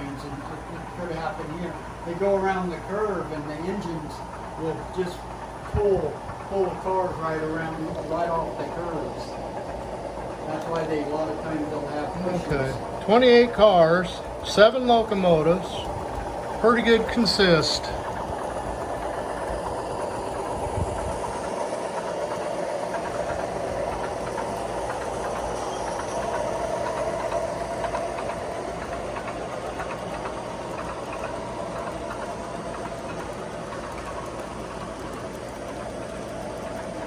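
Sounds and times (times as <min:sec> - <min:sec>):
model train rumbling: 0:00.0 - 0:37.0
wheels clicking on track: 0:00.0 - 0:37.0.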